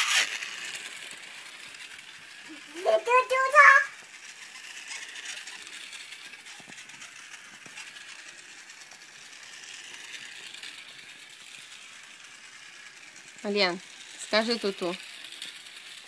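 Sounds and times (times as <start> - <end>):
rapid clicking of wheels: 0.0 - 16.0
toy train motor whirring: 0.0 - 16.0.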